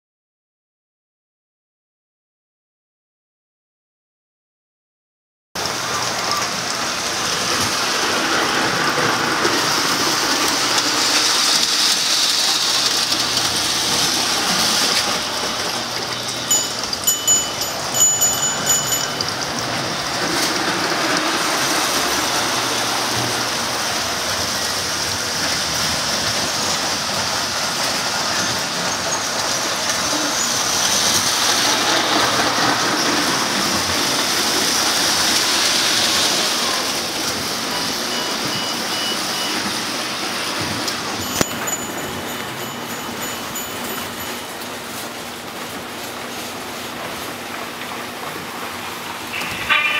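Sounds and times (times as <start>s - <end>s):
toy trains rolling on metal track: 5.6s - 49.9s.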